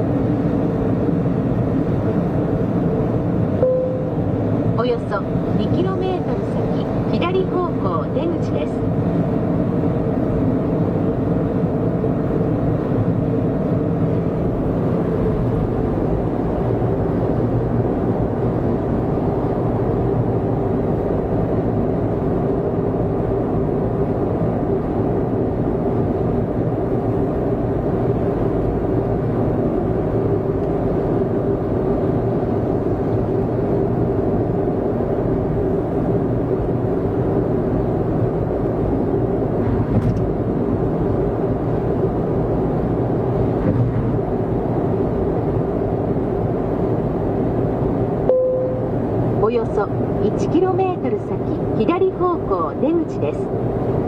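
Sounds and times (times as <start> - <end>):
road and engine noise inside car: 0.0 - 54.0.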